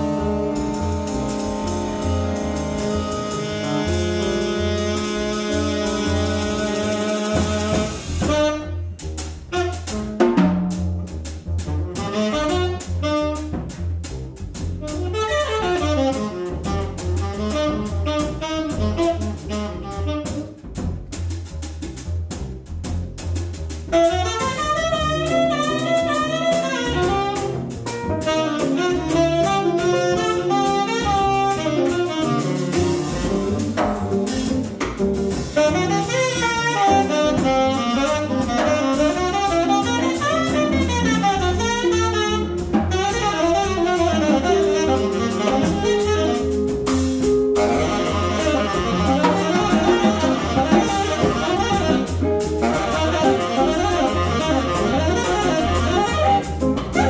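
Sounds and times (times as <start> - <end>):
tenor saxophone melody: 0.0 - 10.2, 12.0 - 13.5, 14.8 - 20.6, 23.9 - 34.3, 35.5 - 57.0
drum kit: 0.0 - 57.0
upright bass: 0.0 - 57.0.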